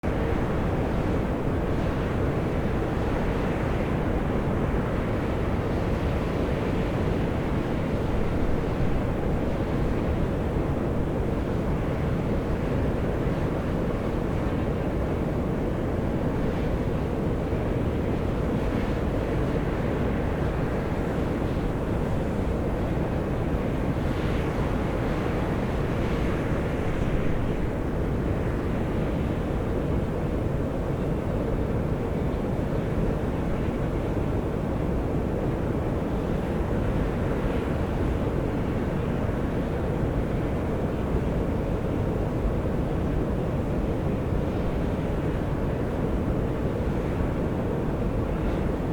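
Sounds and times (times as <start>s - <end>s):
fumaroles hissing steam: 0.1s - 48.9s.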